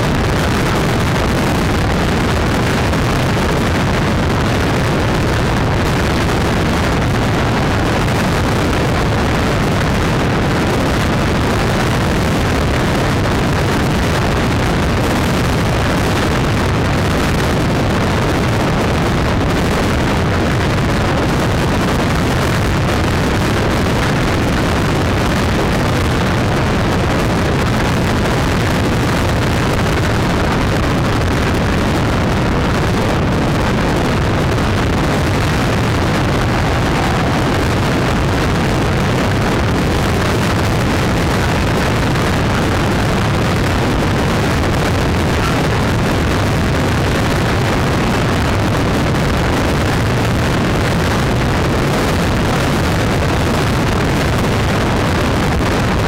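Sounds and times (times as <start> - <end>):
motorcycle engines and road noise: 0.0 - 50.1
wind rushing on microphone: 0.0 - 56.0.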